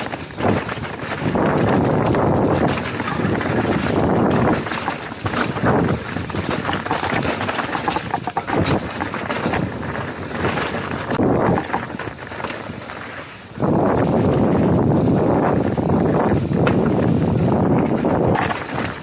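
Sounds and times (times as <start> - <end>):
bike rattling over ground: 0.0 - 19.0
wind buffeting microphone: 0.0 - 19.0.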